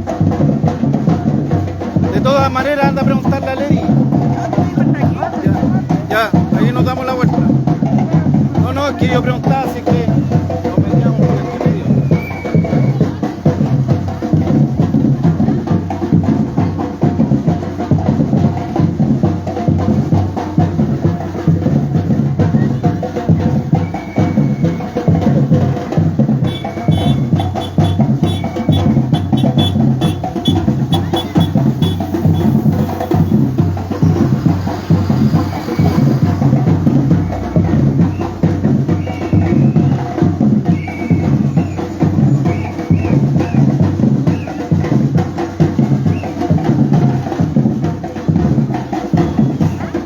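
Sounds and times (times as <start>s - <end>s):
percussion group drumming: 0.0s - 50.0s.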